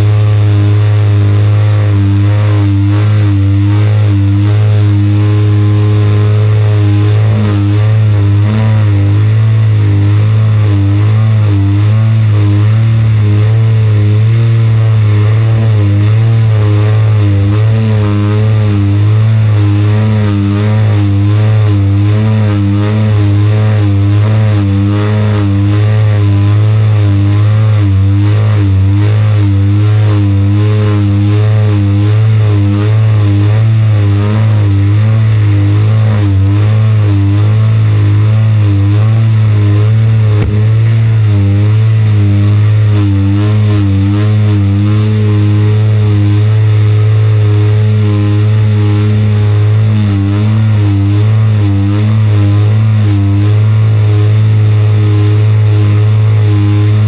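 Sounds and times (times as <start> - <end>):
model plane engine at high throttle: 0.0 - 57.0.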